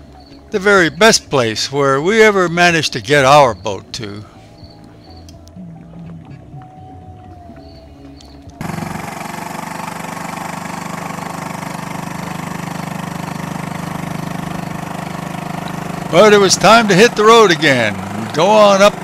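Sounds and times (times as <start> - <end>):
faint shoreline ambience: 0.0 - 19.0
outboard motor running: 0.0 - 19.0.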